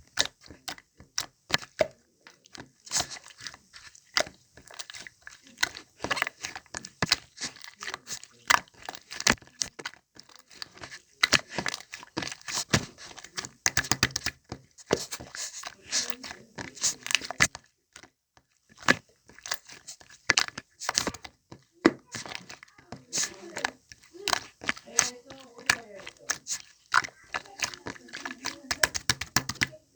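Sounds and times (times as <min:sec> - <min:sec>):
slime squelching and popping: 0:00.0 - 0:29.9.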